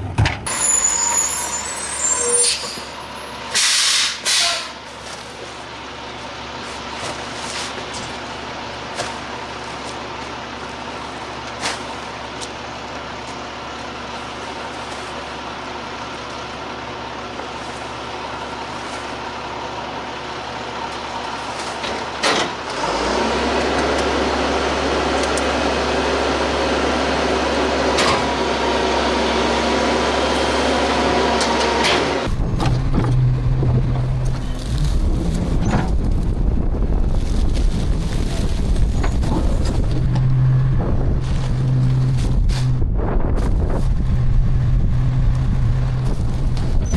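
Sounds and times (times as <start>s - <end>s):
garbage truck engine running: 0.0s - 46.9s.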